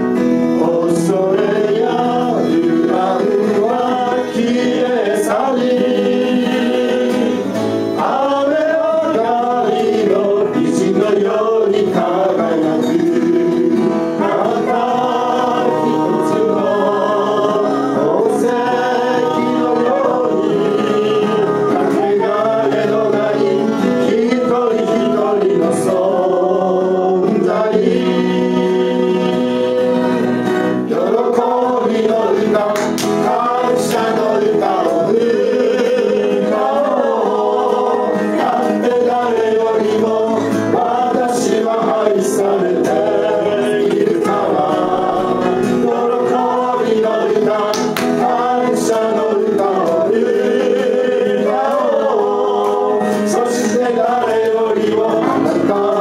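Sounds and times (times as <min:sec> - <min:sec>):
choir singing gospel in harmony: 0:00.0 - 0:56.0.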